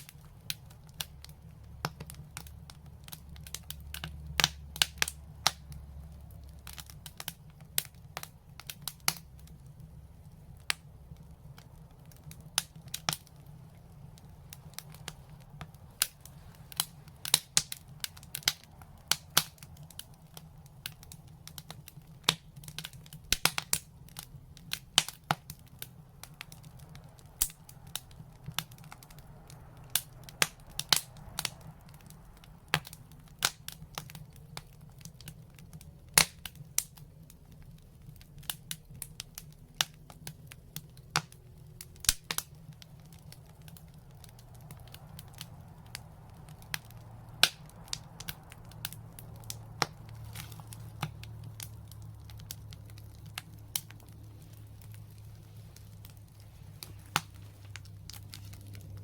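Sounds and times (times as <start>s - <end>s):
low steady rumble: 0.0s - 59.0s
open fire crackling: 0.0s - 59.0s.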